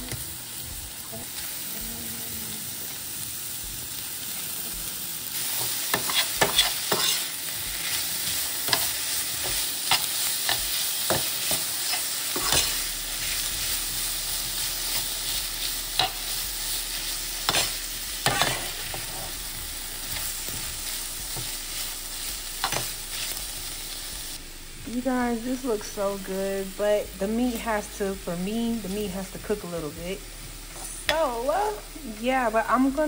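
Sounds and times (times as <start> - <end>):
vegetables and meat sizzling in pan: 0.0 - 33.0.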